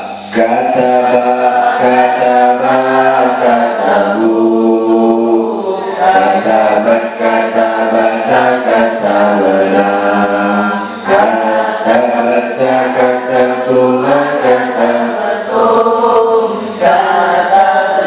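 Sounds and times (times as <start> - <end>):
girls chanting in unison: 1.0 - 18.0.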